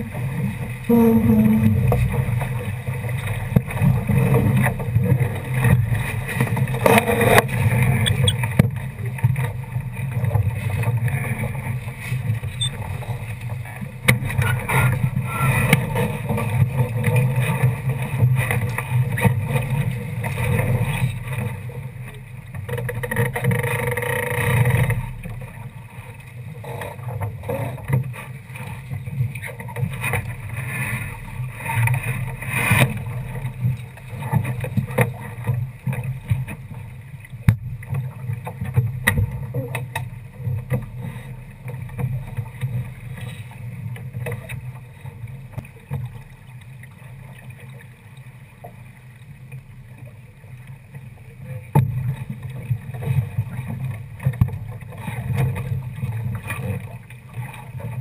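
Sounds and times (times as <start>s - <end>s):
water slapping a boat hull: 0.0s - 58.0s.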